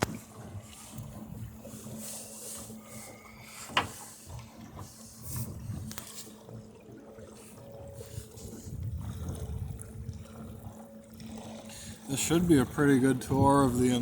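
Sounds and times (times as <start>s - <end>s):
boat gear creaking and rattling: 0.0s - 14.0s
water around a hull: 0.0s - 14.0s.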